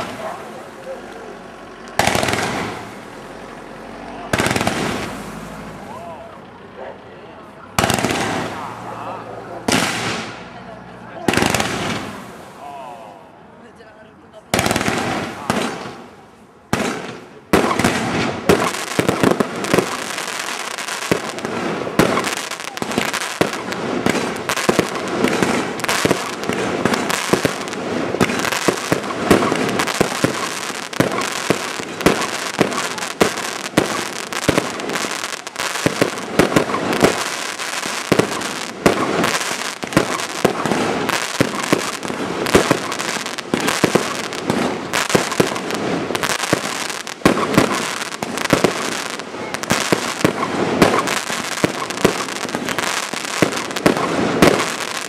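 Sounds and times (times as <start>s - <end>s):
fireworks popping and banging: 0.0s - 1.3s, 1.9s - 3.1s, 4.3s - 5.9s, 7.7s - 10.5s, 11.2s - 12.5s, 14.4s - 55.0s
crackling fireworks stars: 0.0s - 13.1s, 13.7s - 55.0s.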